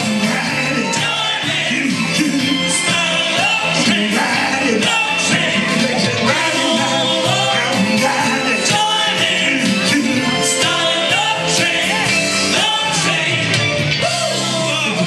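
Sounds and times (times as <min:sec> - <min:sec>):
upbeat soul music: 0:00.0 - 0:15.0.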